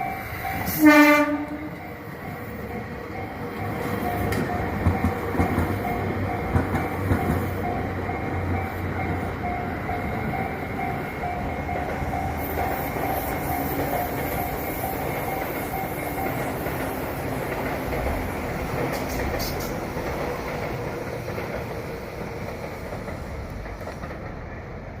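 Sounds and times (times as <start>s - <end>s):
train running rumble: 0.0s - 25.0s
train wheels clacking on rails: 0.0s - 25.0s.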